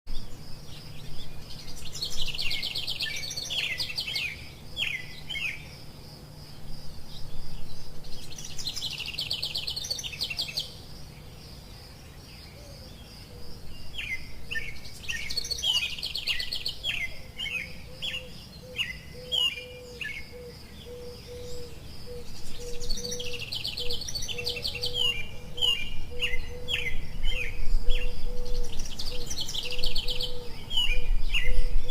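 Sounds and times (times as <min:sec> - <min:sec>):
songbird singing: 0:00.1 - 0:31.9.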